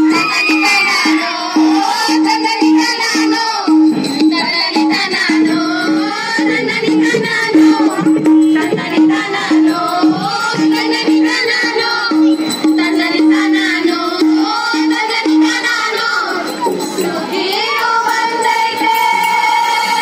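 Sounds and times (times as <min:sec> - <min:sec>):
percussion: 0:00.0 - 0:20.0.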